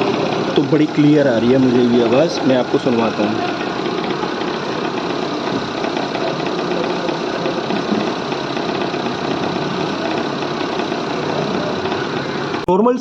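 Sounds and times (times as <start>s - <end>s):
car engine running: 0.0s - 12.7s
repeating pulley knock: 0.0s - 12.7s.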